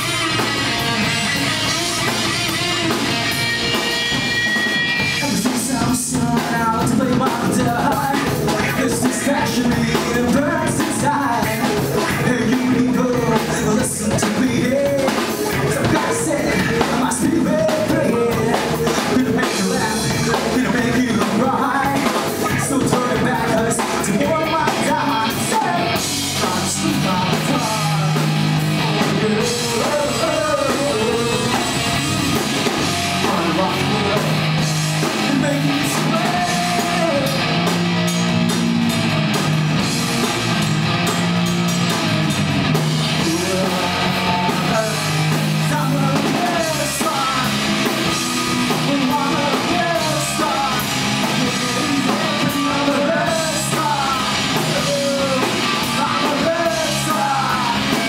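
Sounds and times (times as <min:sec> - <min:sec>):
man singing: 0:00.0 - 0:37.8, 0:43.0 - 0:58.0
drum kit: 0:00.0 - 0:58.0
electric bass: 0:00.0 - 0:58.0
electric guitar: 0:00.0 - 0:58.0.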